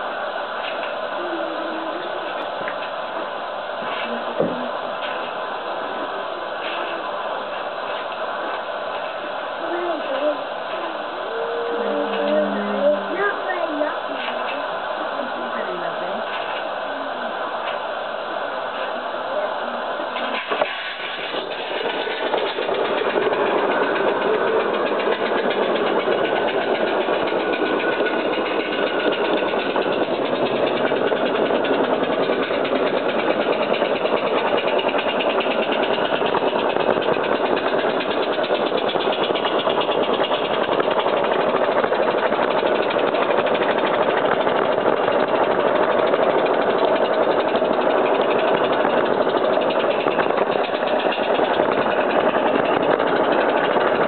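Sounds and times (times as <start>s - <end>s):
steam locomotive chuffing: 0.0s - 54.0s
wheel noise on track: 0.0s - 54.0s.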